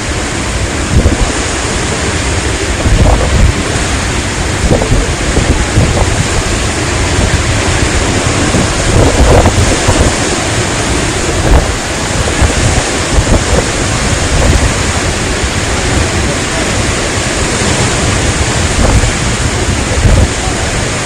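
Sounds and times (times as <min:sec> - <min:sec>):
strong storm wind: 0:00.0 - 0:21.0
wind buffeting microphone: 0:00.0 - 0:21.0.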